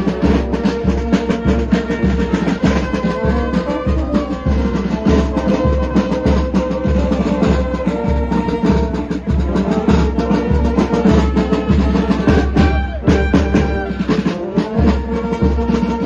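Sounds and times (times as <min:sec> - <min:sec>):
bass drum beat: 0:00.0 - 0:16.0
brass band playing a march: 0:00.0 - 0:16.0.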